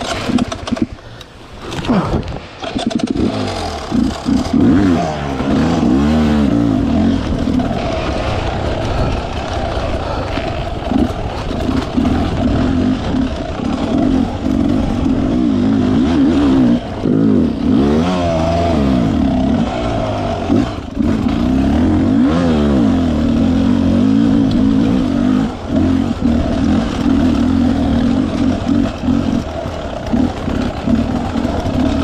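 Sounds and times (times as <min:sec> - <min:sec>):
dirt bike engine revving: 0:00.0 - 0:00.9, 0:01.6 - 0:32.0.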